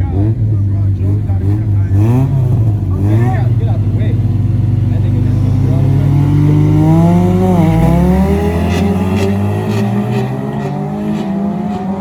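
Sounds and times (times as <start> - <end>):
cars accelerating at full throttle: 0.0 - 12.0.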